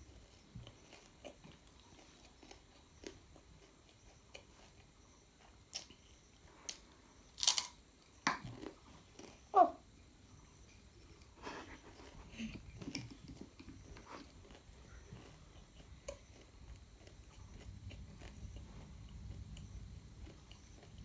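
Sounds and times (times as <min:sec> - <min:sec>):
child chewing a crunchy snack: 0:00.0 - 0:21.0.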